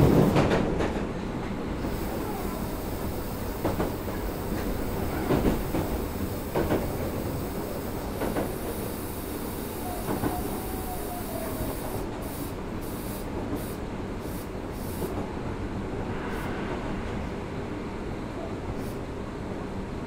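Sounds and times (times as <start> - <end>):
rumble of wheels on rail: 0.0 - 20.0.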